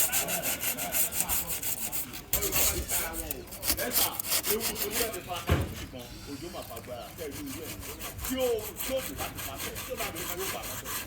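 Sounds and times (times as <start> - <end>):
rapid rubbing strokes: 0.0 - 5.3, 7.0 - 11.0.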